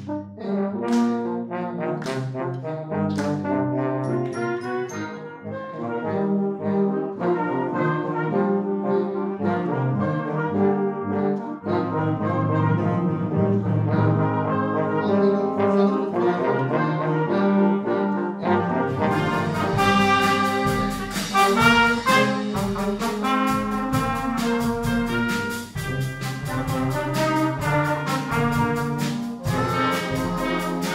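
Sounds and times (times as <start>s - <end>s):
brass band playing: 0.0s - 30.9s.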